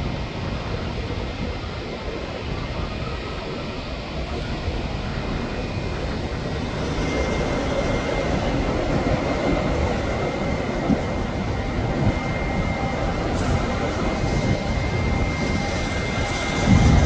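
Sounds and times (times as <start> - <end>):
high engine whine: 0.0 - 17.0
jet engines rumbling: 0.0 - 17.0.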